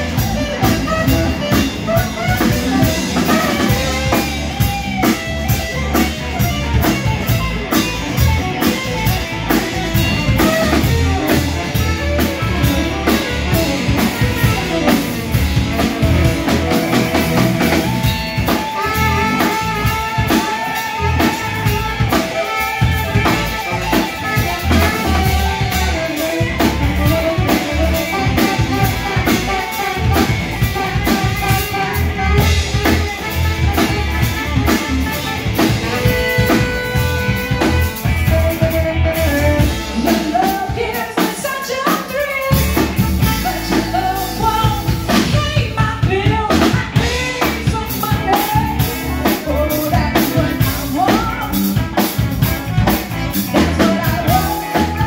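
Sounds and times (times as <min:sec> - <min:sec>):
bass: 0:00.0 - 0:55.0
drum kit: 0:00.0 - 0:55.0
electric guitar: 0:00.0 - 0:55.0
horns: 0:00.0 - 0:55.0.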